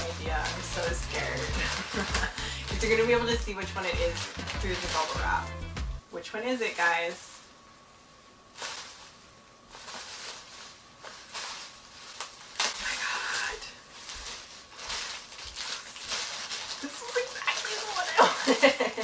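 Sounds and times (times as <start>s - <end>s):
bubble wrap crinkling: 0.0s - 6.0s, 8.4s - 19.0s.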